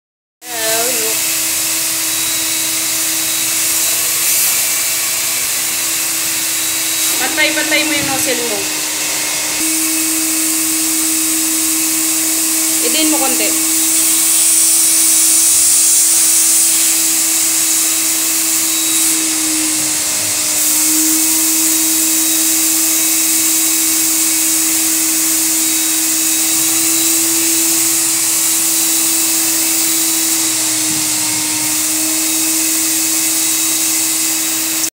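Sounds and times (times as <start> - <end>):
extractor suction hiss: 0.5 - 34.9
extractor motor hum: 0.6 - 34.9.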